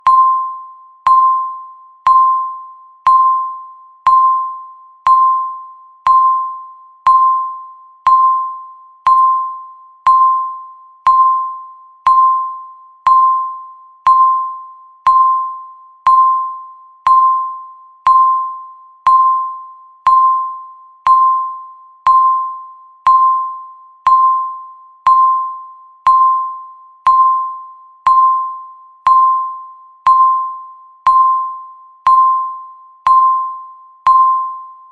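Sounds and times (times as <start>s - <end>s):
timer beeping: 0.0s - 34.9s.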